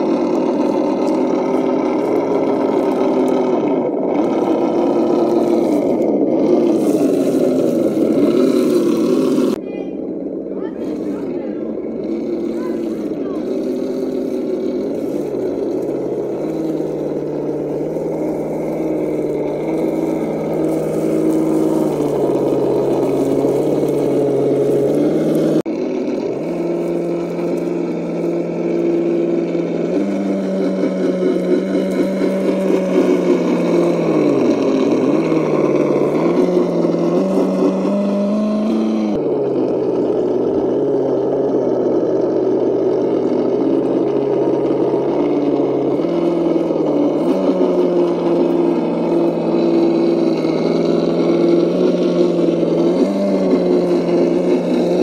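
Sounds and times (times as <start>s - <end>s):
toy car electric motor whining: 0.0s - 55.0s.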